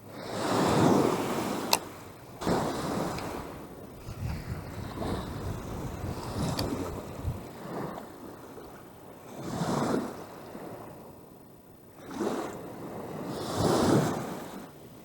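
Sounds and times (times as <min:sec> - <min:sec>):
lake waves breaking on shore: 0:00.2 - 0:11.1, 0:12.0 - 0:14.7.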